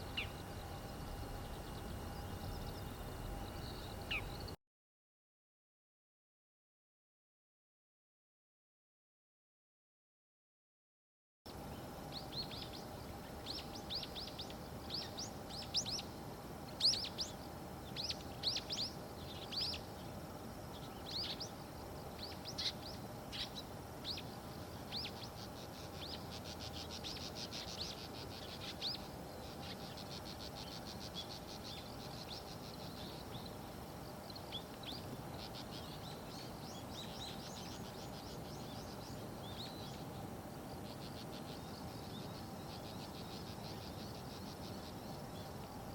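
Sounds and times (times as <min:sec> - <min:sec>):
faint steady hum: 0:00.0 - 0:04.6, 0:11.5 - 0:45.9
small birds chirping: 0:00.0 - 0:04.6, 0:11.6 - 0:45.9.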